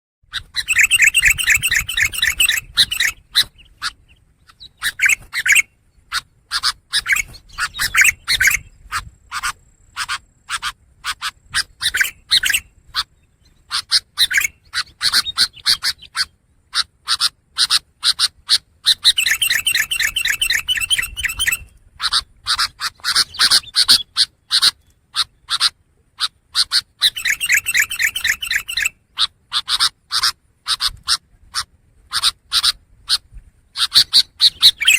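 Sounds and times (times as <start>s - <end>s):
bird singing chattering phrases: 0.3s - 31.0s, 33.8s - 34.9s.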